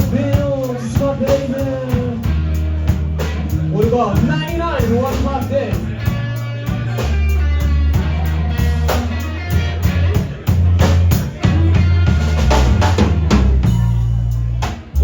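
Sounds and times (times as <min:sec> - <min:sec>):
bass: 0:00.0 - 0:15.0
blues guitar: 0:00.0 - 0:15.0
drum kit: 0:00.0 - 0:15.0.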